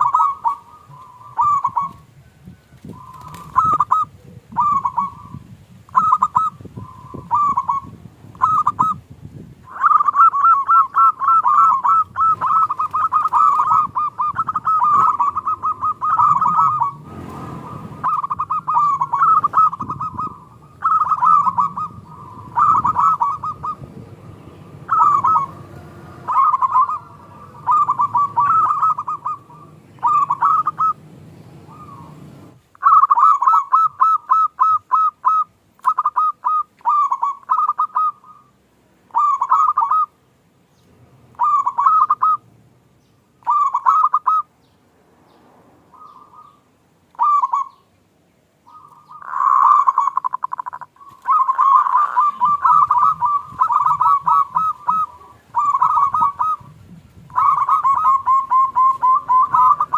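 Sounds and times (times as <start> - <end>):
doves cooing: 0.0 - 40.2, 41.0 - 42.6, 43.4 - 44.5, 45.9 - 47.9, 48.6 - 59.9.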